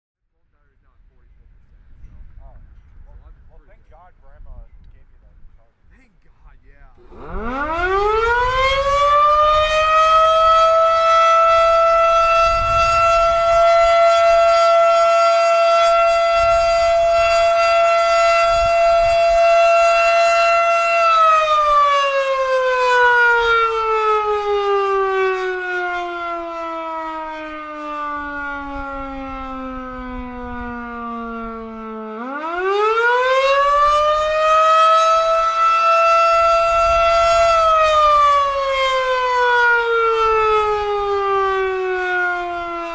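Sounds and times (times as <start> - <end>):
fire siren wailing: 6.8 - 42.9.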